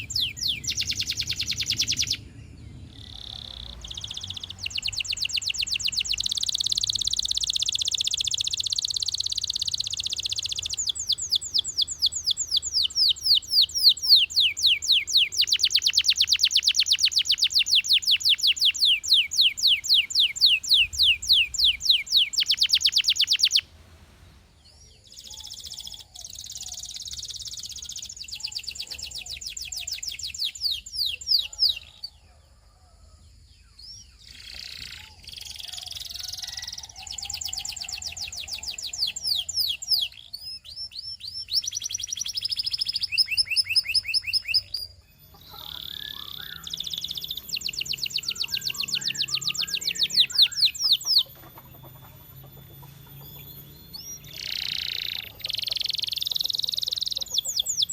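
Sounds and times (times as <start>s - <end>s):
canary singing: 0.0s - 32.2s, 33.6s - 57.9s.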